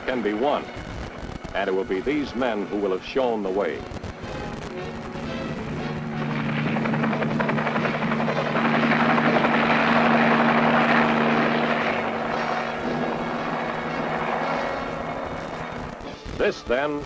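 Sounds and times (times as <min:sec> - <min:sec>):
helicopter passing: 0:00.0 - 0:16.3
steady low hum: 0:00.0 - 0:16.4.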